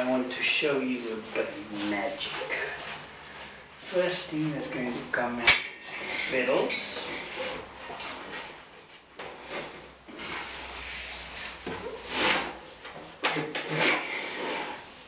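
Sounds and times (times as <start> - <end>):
wood scraping and rubbing: 0.0 - 15.0.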